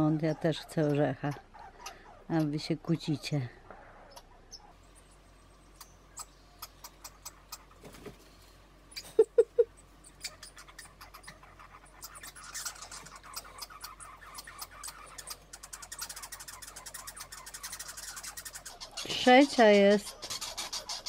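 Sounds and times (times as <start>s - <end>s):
squirrels chattering: 0.0s - 21.0s.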